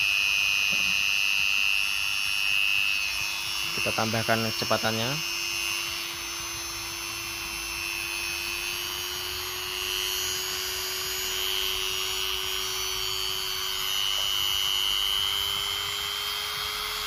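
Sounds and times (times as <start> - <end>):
rotary tool motor whine: 0.0 - 17.0.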